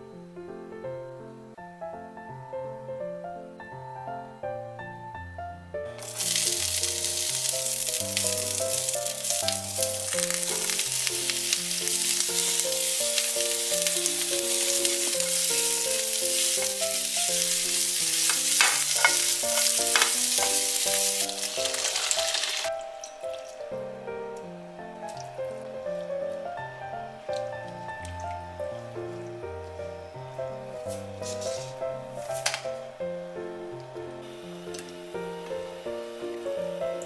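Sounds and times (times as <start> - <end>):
soft background music: 0.0 - 37.0
peppers sizzling in hot oil: 6.0 - 37.0.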